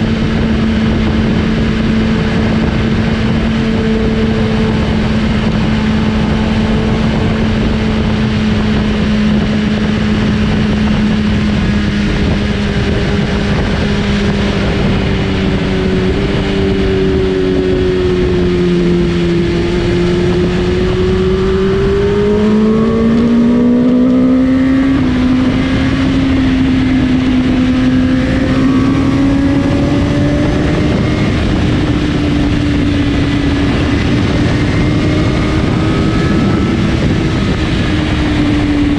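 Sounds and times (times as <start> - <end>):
motorcycle engine: 0.0 - 38.9
motorcycles passing: 0.0 - 38.9
wind and road noise: 0.0 - 38.9.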